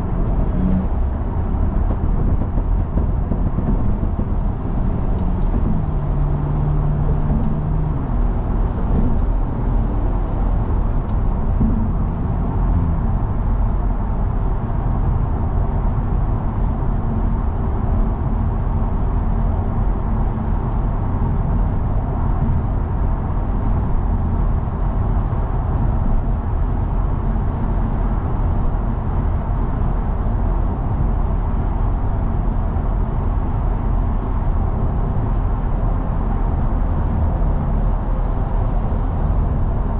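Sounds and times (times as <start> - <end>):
car engine rumbling: 0.0 - 39.9
road noise: 0.0 - 39.9.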